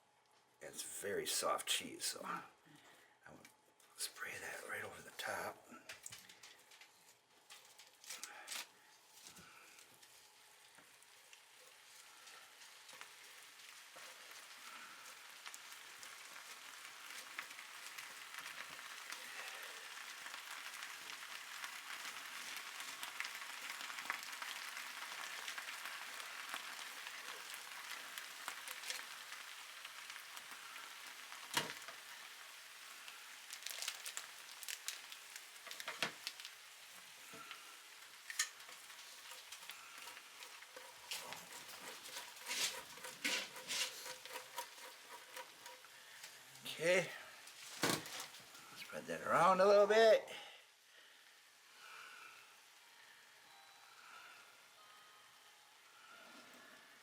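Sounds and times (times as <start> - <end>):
food sizzling in a pot: 9.0 - 49.0, 50.6 - 57.0.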